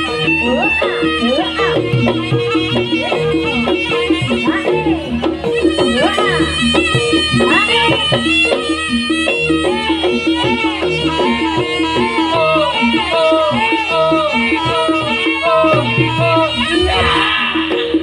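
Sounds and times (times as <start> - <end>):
gamelan metallic notes: 0.0 - 18.0
steady drum beat: 0.0 - 18.0.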